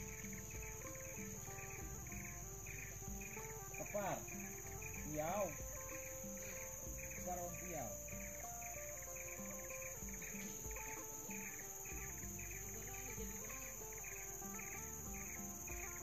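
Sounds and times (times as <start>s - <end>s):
insects shrilling: 0.0s - 16.0s
pulsing chirp: 0.0s - 16.0s
sweeping calls: 0.0s - 16.0s.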